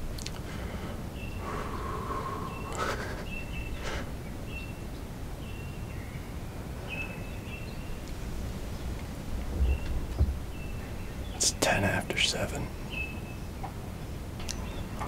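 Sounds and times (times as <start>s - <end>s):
songbirds whistling: 0.9s - 8.1s, 8.7s - 15.0s.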